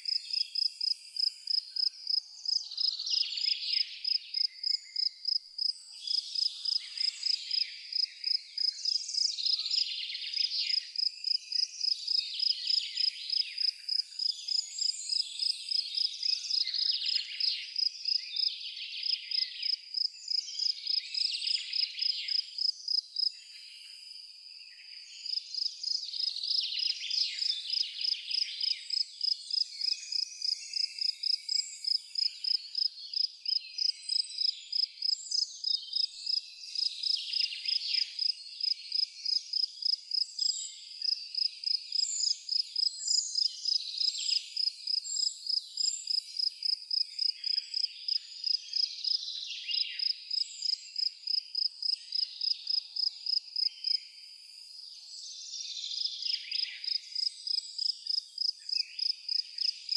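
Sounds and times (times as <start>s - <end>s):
cricket chirping: 0.0s - 54.8s, 55.9s - 59.9s.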